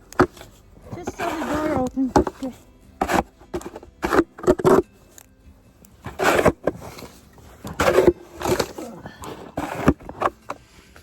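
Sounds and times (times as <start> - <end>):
snow shovel scraping snow: 0.2 - 4.9, 6.0 - 10.9.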